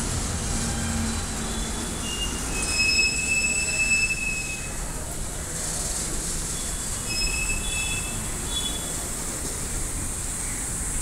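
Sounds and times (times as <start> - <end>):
steel wheels squealing on rails: 0.3 - 9.4.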